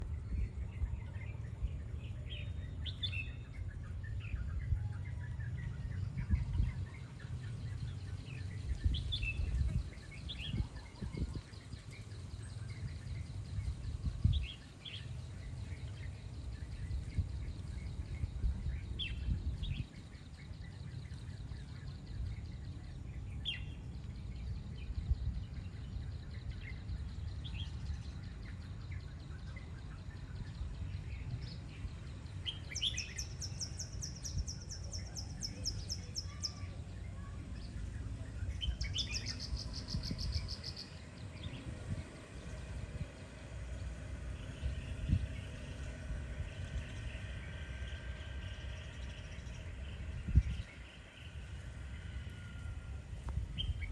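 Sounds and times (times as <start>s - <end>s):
bulbul singing: 0.0s - 53.9s.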